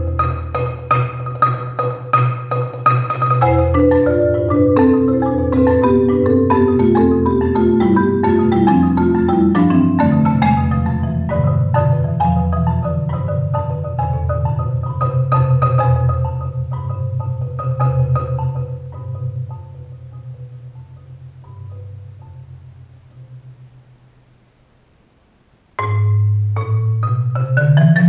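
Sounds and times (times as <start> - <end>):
marimba played with mallets: 0.0 - 23.6, 25.8 - 28.0.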